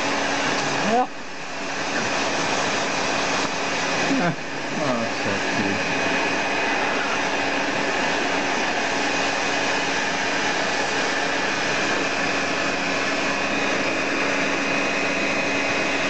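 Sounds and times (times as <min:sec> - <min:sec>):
hair dryer blowing air: 0:00.0 - 0:16.0.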